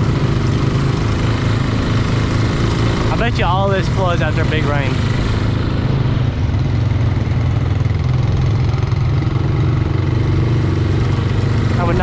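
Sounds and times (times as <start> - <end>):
small off-road vehicle engine: 0.0 - 12.0.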